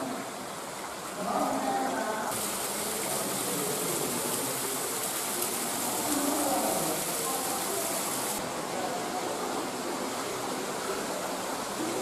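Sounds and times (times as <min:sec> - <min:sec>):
water flowing: 0:00.0 - 0:12.0.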